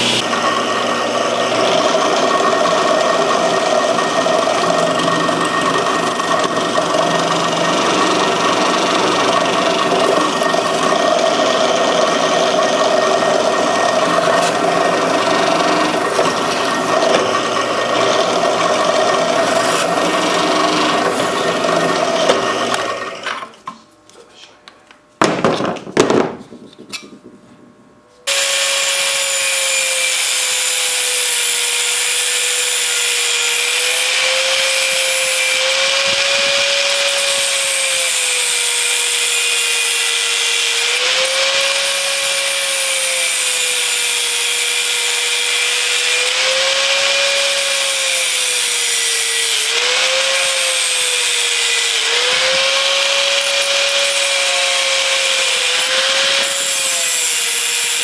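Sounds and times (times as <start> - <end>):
power tool grinding: 0.0 - 23.6, 28.2 - 58.0.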